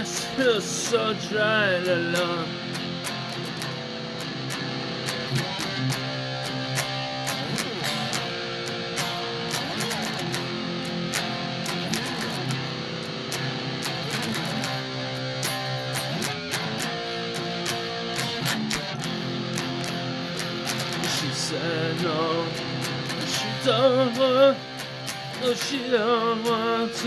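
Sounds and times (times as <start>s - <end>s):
strummed guitar chords: 0.0s - 27.0s.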